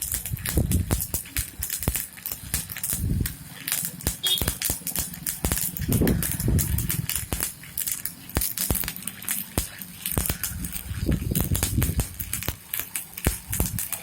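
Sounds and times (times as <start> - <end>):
welding arc crackling and popping: 0.0 - 14.0
welding arc hiss: 0.0 - 14.0.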